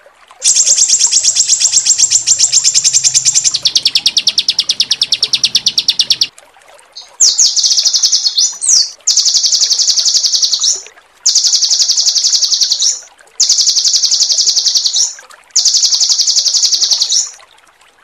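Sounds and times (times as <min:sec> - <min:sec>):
songbird rapid trill: 0:00.4 - 0:06.3, 0:07.0 - 0:17.4.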